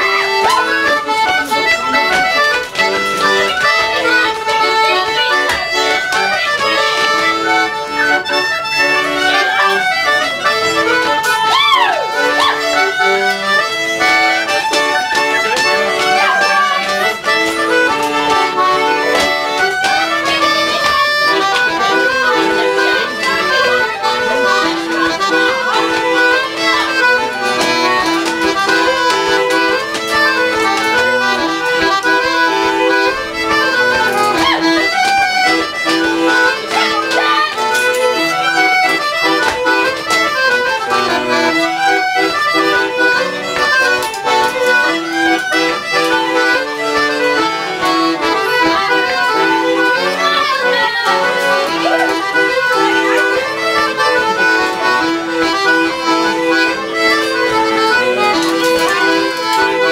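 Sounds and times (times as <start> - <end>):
accordion and fiddle dance tune: 0.0 - 59.9.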